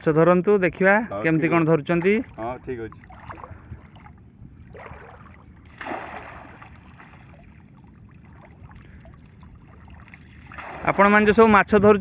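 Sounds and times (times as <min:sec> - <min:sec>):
river water sloshing and splashing: 0:01.8 - 0:11.8.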